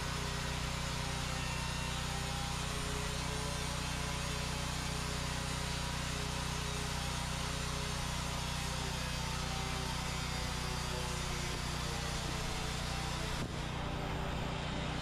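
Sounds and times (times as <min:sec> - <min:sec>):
motor running with hiss: 0:00.0 - 0:15.0.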